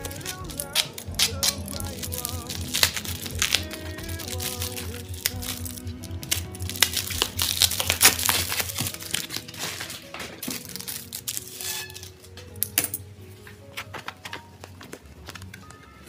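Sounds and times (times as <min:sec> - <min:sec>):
packaging crinkling and rustling: 0:00.0 - 0:12.8, 0:13.4 - 0:16.0
background music: 0:00.0 - 0:16.0.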